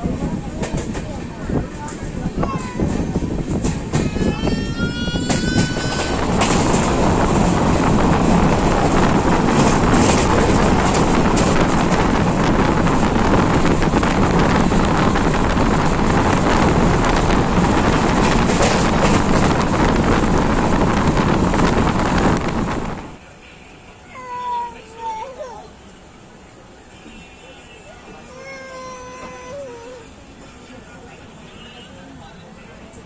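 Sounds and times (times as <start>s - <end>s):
train wheels rumbling on track: 0.0s - 31.4s.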